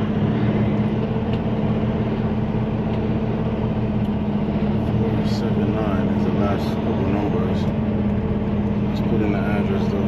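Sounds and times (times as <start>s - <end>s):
truck diesel engine running: 0.0s - 10.0s.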